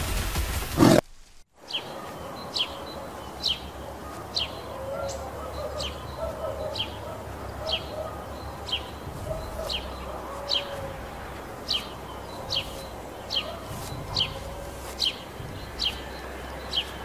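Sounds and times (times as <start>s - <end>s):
bird chirping: 1.6s - 17.0s.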